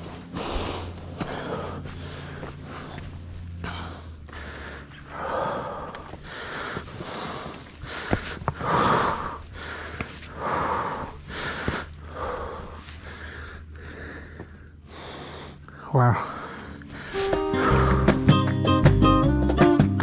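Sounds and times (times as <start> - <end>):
heavy breathing: 0.0 - 18.3.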